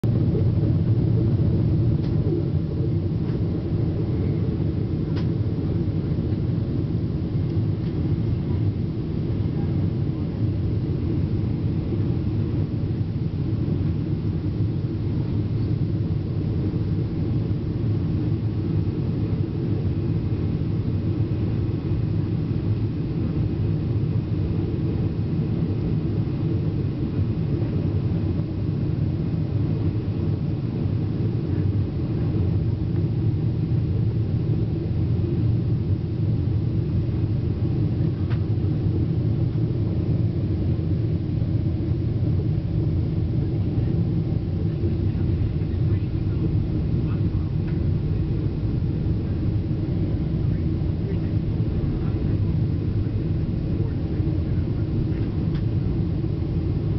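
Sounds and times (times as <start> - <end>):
airplane cabin engine rumble: 0.0 - 56.9.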